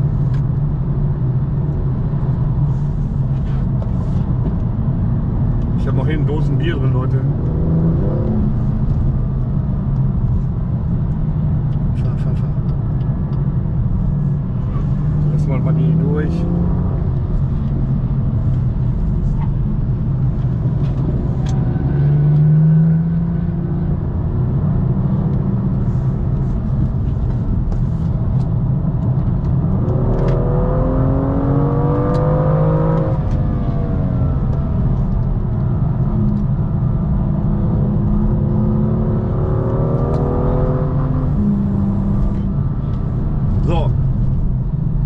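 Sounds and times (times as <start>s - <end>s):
car engine pulling under throttle: 0.0s - 45.0s
road and tyre noise: 0.0s - 45.0s.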